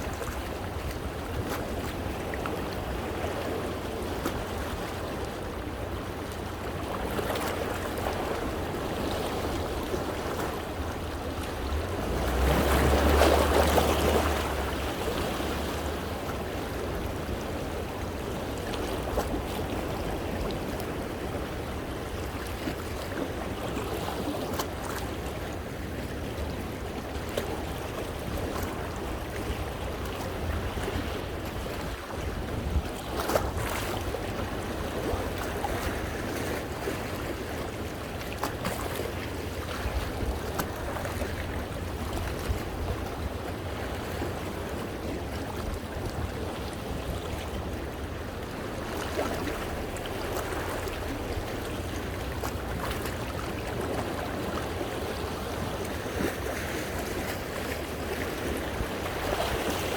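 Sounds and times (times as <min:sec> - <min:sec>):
wind rumble on microphone: 0:00.0 - 0:59.9
sea waves splashing on rocks: 0:06.4 - 0:59.9.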